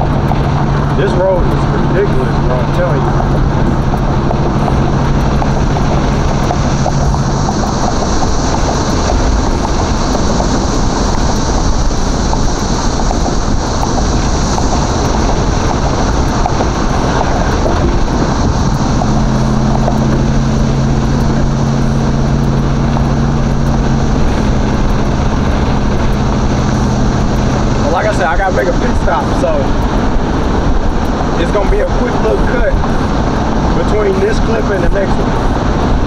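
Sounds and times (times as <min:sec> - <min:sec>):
car engine cruising: 0:00.0 - 0:36.0
low engine drone: 0:00.0 - 0:36.0
road noise: 0:00.0 - 0:36.0.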